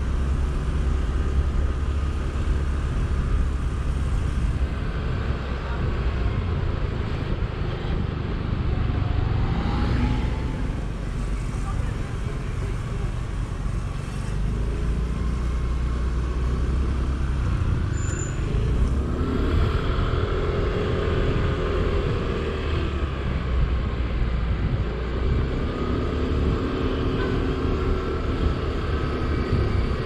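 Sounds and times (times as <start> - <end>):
wind rumble on microphone: 0.0 - 11.5, 16.3 - 30.0.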